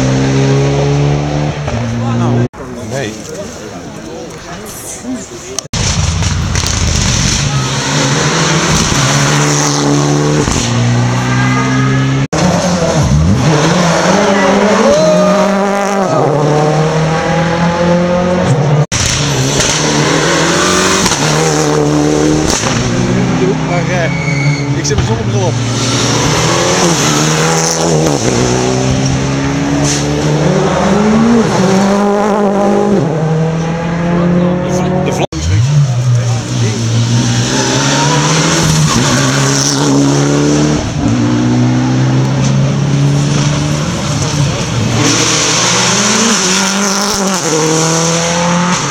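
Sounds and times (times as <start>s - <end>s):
rally car engines at full throttle: 0.0s - 48.9s.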